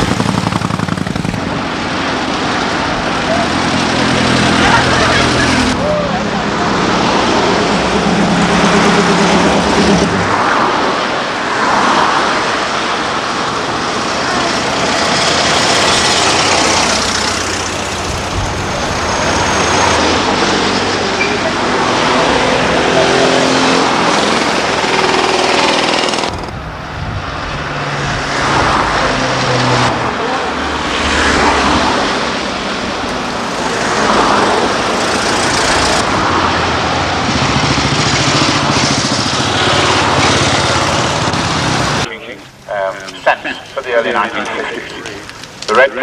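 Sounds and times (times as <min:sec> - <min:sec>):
steady noisy background: 0:00.0 - 0:31.0, 0:32.0 - 0:46.0
car engines driving past: 0:01.4 - 0:25.6, 0:26.6 - 0:42.1.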